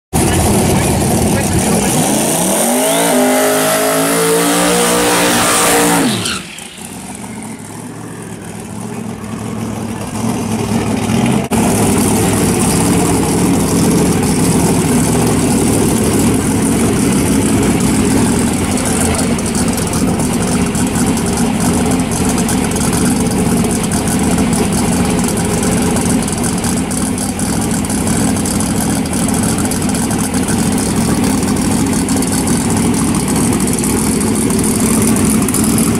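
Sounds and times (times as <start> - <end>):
car engine idling: 0.1 - 4.0, 6.1 - 35.9
car engine revving: 0.2 - 35.9.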